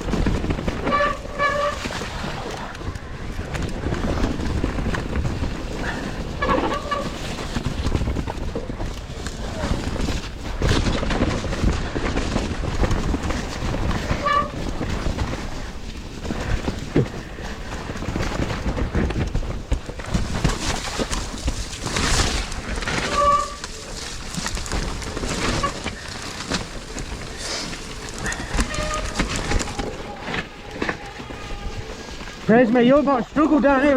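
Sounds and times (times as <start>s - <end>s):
bike tyres rumbling over rough ground: 0.0s - 33.9s.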